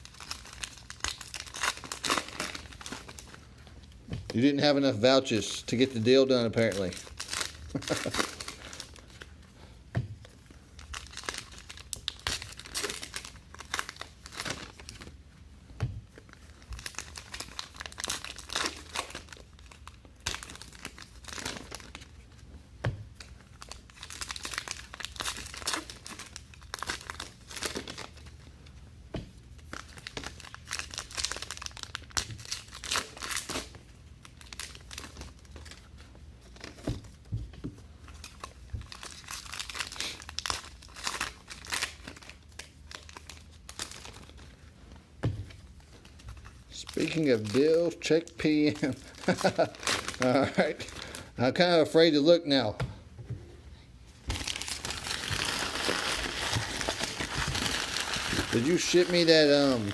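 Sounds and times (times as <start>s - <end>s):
card pack wrappers crinkling: 0.0s - 3.5s, 4.3s - 9.3s, 10.5s - 15.2s, 16.1s - 22.4s, 23.2s - 28.4s, 29.6s - 36.9s, 38.1s - 44.6s, 45.9s - 52.7s, 54.2s - 59.9s.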